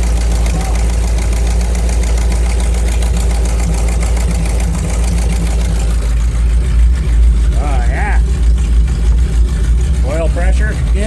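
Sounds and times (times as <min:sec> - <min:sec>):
engine idling through straight pipe: 0:00.0 - 0:11.0.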